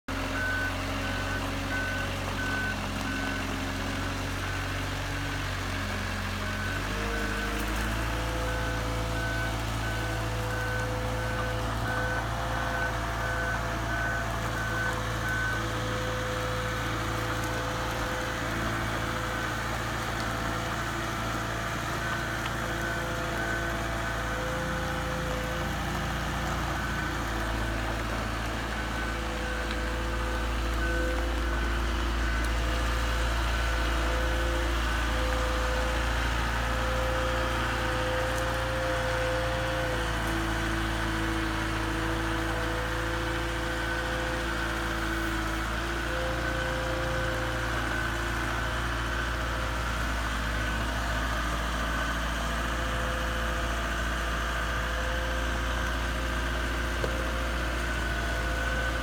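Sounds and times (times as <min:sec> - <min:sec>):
lift engine running: 0:00.1 - 0:59.0.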